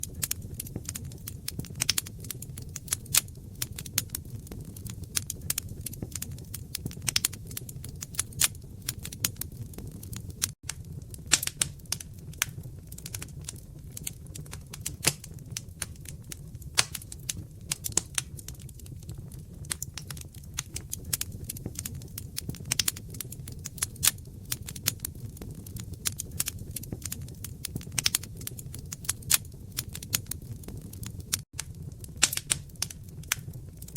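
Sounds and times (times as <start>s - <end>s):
low rumble of flames: 0.0s - 33.9s
wood fire crackling: 0.0s - 33.9s.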